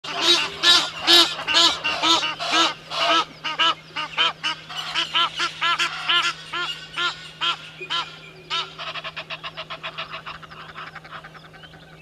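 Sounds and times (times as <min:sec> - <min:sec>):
bird calling in harsh notes: 0:00.0 - 0:12.0.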